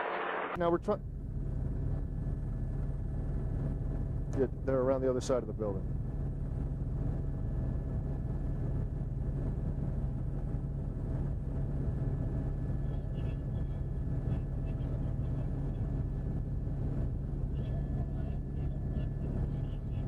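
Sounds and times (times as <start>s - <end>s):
helicopter engine and rotor drone: 0.6s - 20.0s.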